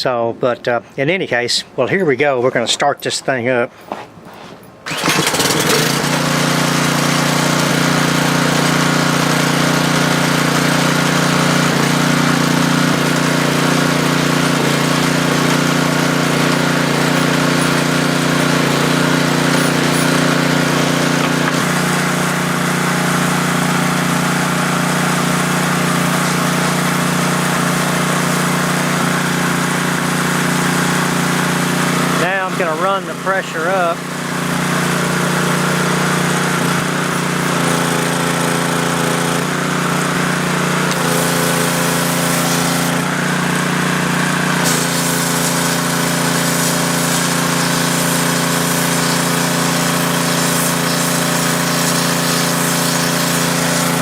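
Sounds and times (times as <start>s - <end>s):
pressure washer engine running: 4.8s - 54.0s.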